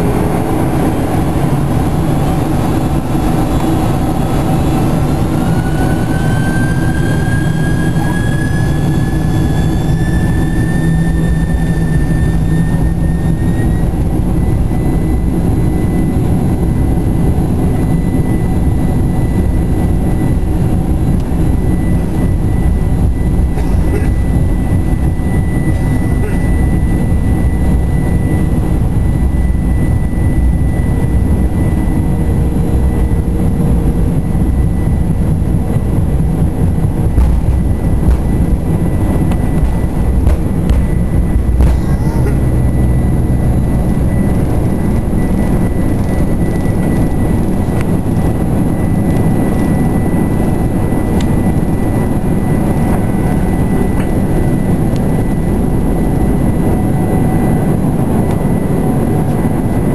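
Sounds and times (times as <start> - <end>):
jet engine whine: 0.0 - 59.9
loud rumble of rolling jet: 0.0 - 59.9.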